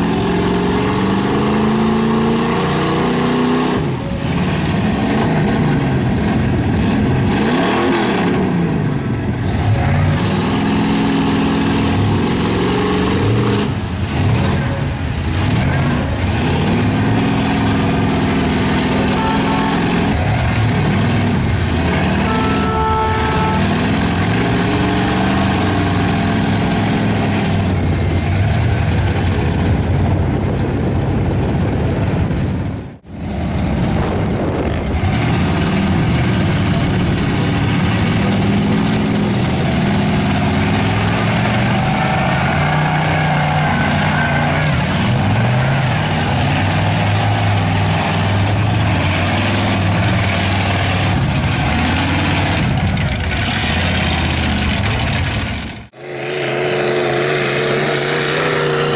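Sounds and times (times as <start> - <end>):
truck engine revving: 0.0 - 58.9.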